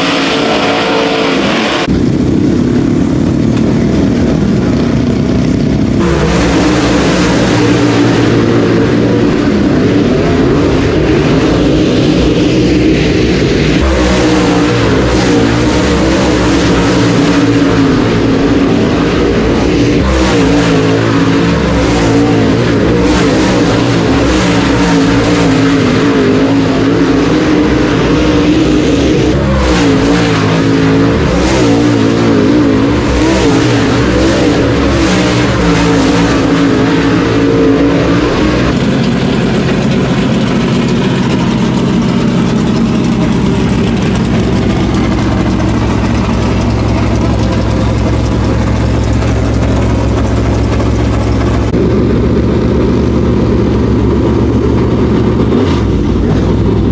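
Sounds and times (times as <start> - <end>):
race car engines passing: 0.0 - 56.9
race engine idling: 0.0 - 56.9.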